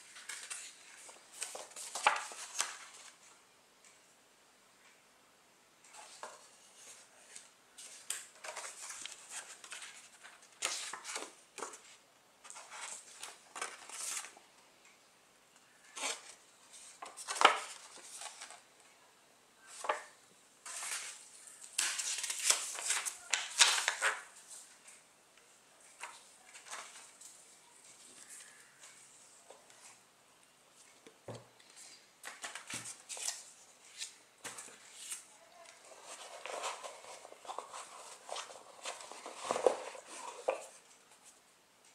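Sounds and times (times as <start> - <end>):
paper rustling: 0.0 - 3.2, 5.9 - 14.4, 15.8 - 18.6, 19.6 - 25.0, 25.8 - 30.0, 31.7 - 41.4.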